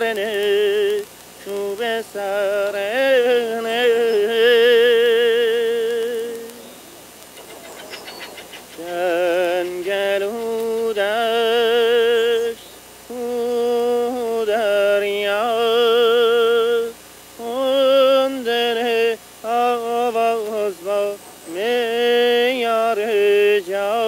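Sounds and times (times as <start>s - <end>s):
person singing unaccompanied: 0.0s - 24.0s.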